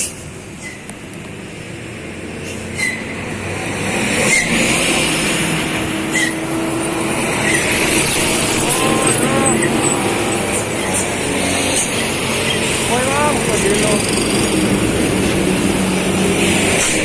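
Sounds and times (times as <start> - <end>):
truck diesel engine straining: 0.0 - 17.0.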